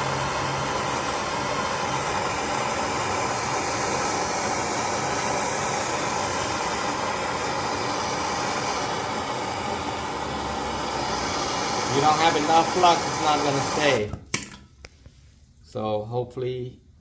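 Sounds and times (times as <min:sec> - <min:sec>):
gas torch flame hissing: 0:00.0 - 0:14.2.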